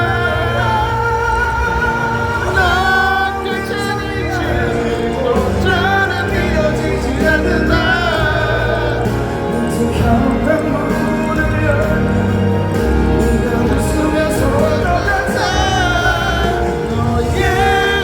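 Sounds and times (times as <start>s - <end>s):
live band music over loudspeakers: 0.0s - 18.0s
person singing: 0.0s - 18.0s.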